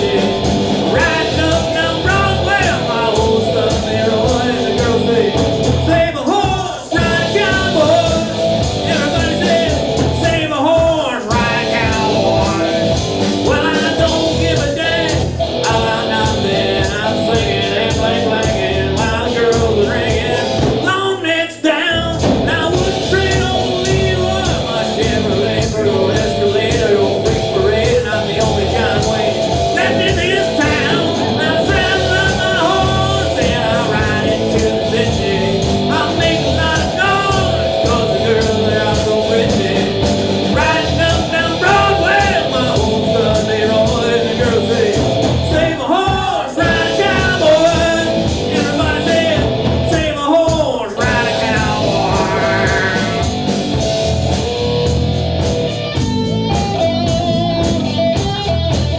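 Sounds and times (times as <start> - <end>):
rock band music with vocals: 0.0 - 58.9.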